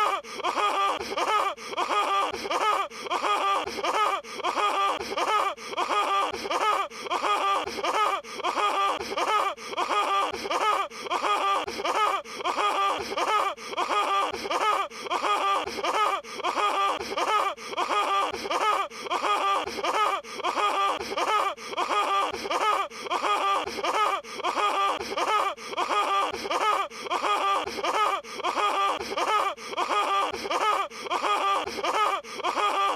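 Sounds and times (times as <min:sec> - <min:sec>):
looped cartoon laugh: 0:00.0 - 0:32.9.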